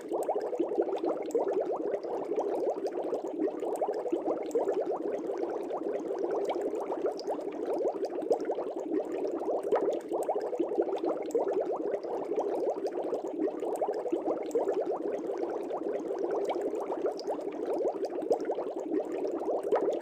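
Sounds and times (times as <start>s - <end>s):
aquarium air bubbles bubbling: 0.0s - 20.0s.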